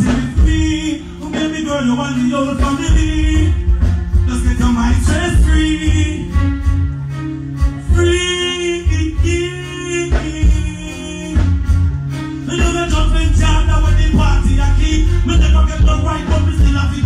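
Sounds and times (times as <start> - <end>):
man singing into a microphone: 0.0 - 6.7, 7.8 - 11.7, 12.4 - 17.0
reggae band with heavy bass: 0.0 - 17.0.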